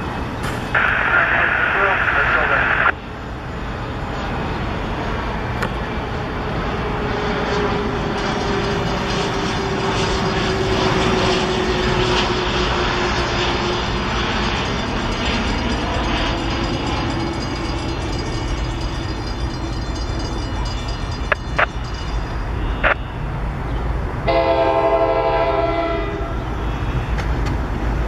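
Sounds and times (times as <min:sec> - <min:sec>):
train wheels rumbling on rails: 0:00.0 - 0:01.0, 0:01.8 - 0:28.0.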